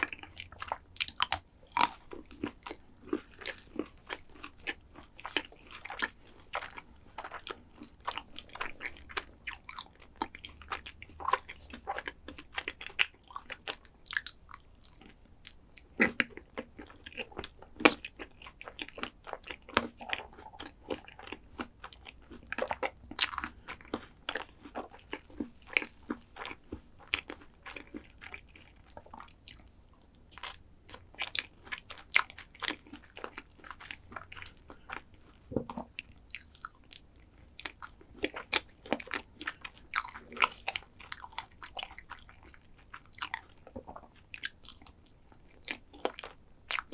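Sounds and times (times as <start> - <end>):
chewing and crunching: 0.0 - 46.9.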